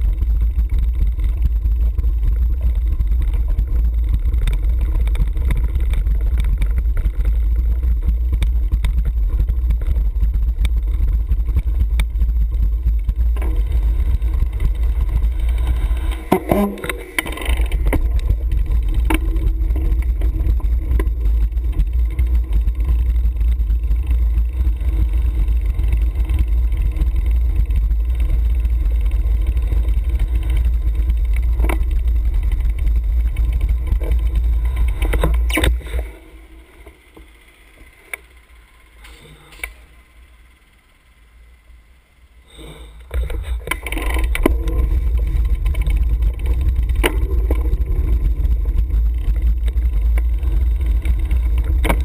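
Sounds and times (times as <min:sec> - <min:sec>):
road rumble: 0:00.0 - 0:52.0.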